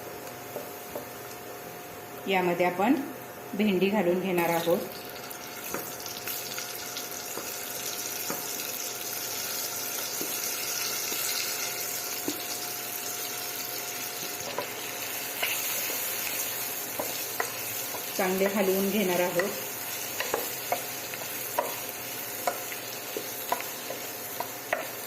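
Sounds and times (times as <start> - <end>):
okra sizzling in hot oil: 4.4 - 25.0.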